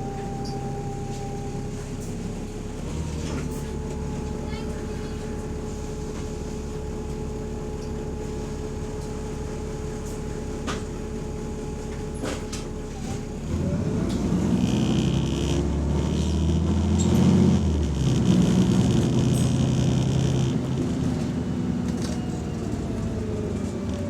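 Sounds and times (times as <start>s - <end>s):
bus diesel engine: 0.0s - 24.0s.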